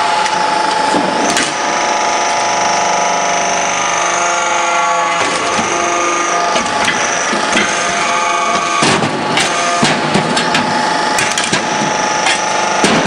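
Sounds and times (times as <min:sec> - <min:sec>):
press machine whine: 0:00.0 - 0:13.0.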